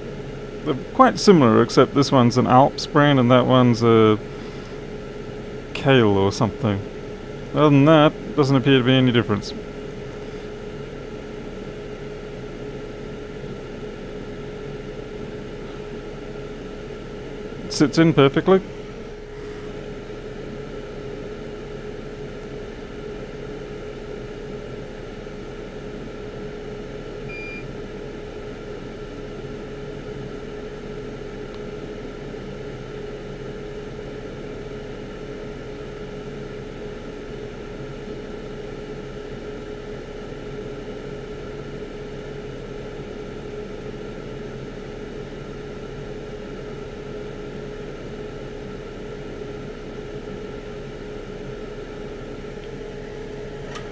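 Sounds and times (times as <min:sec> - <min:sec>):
machine hum: 0:00.0 - 0:53.9.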